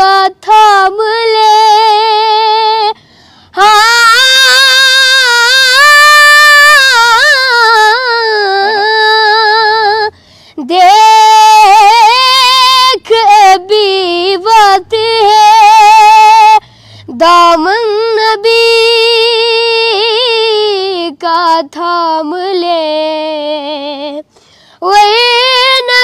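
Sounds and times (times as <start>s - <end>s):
boy singing unaccompanied: 0.0s - 26.0s.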